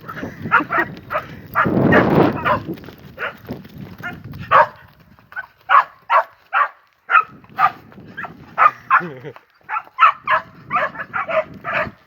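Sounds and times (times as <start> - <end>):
dog barking: 0.0 - 3.4, 4.0 - 4.8, 5.4 - 12.0.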